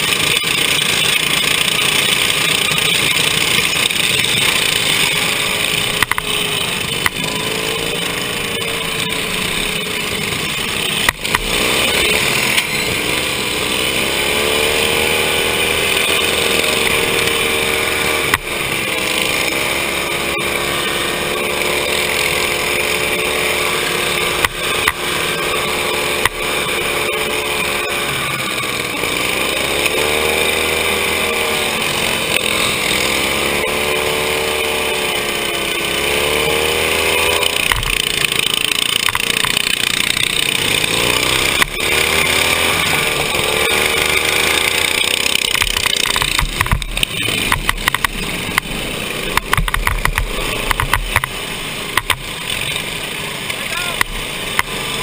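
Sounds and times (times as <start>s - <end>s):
lawn mower engine revving: 0.0s - 55.0s.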